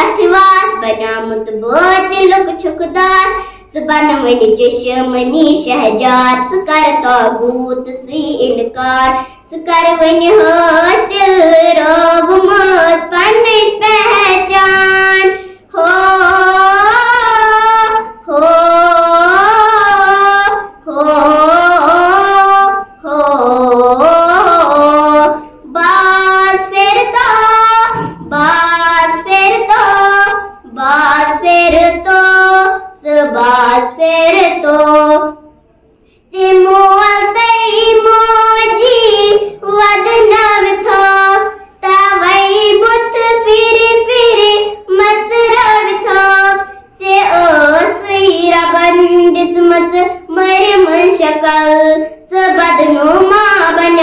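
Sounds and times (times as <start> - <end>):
girl singing unaccompanied: 0.0 - 54.0.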